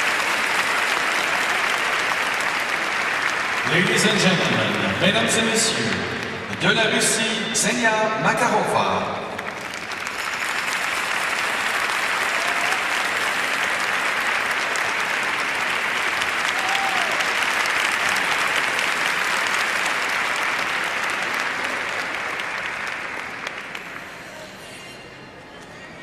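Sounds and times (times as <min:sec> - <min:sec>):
crowd applauding: 0:00.0 - 0:07.4, 0:09.0 - 0:24.8.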